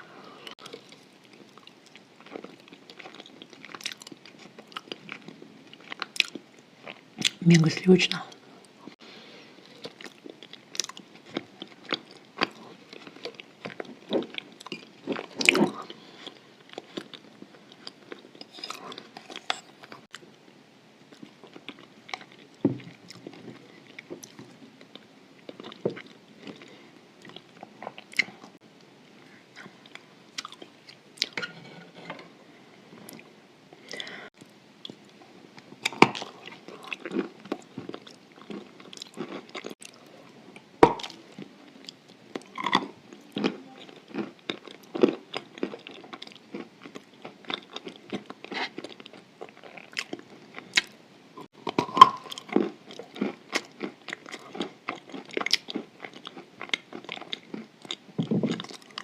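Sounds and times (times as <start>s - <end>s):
soft wet chewing: 0.4s - 7.4s, 8.3s - 20.4s, 21.0s - 59.0s.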